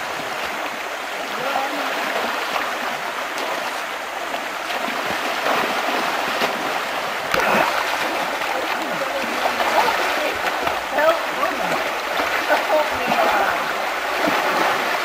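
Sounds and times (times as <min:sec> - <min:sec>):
people splashing in water: 0:00.0 - 0:15.0
rushing river water: 0:00.0 - 0:15.0.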